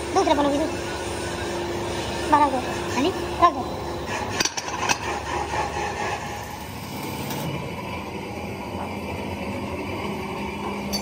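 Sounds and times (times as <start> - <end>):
workshop machinery noise: 0.0 - 11.0.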